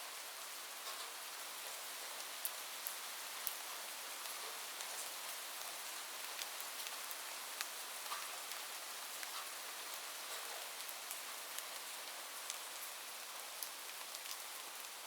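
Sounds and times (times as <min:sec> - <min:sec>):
raindrops ticking on a surface: 0:00.1 - 0:15.0.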